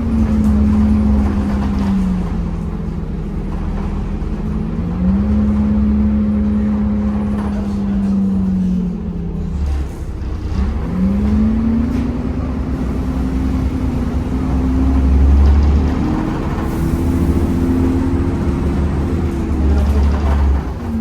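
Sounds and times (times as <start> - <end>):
bus diesel engine rumble: 0.0 - 21.0.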